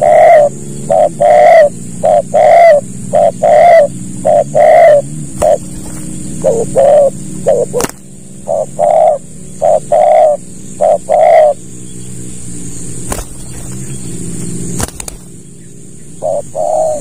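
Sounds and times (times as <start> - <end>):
dove cooing: 0.0 - 17.0
steady hum: 0.0 - 17.0.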